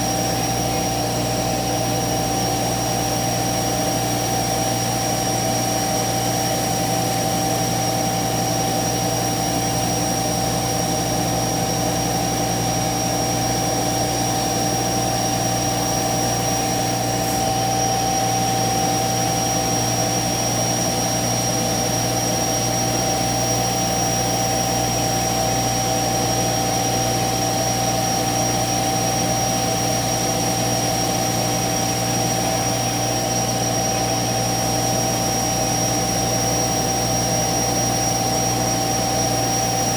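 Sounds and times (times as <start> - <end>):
cnc router whine: 0.0 - 39.9.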